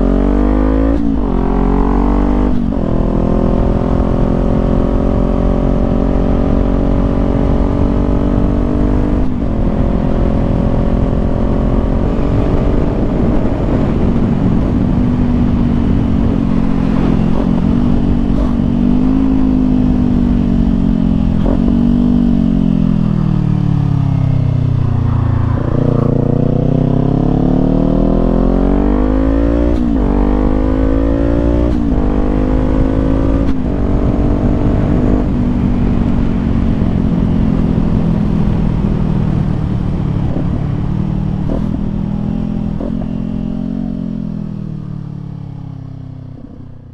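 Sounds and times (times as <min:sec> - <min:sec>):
motorcycle engine revving and shifting: 0:00.0 - 0:46.9.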